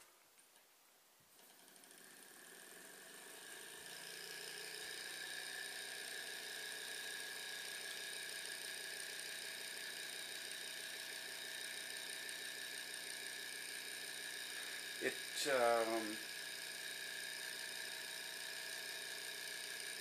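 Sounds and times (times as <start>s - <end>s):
small engine whirring: 1.4s - 20.0s.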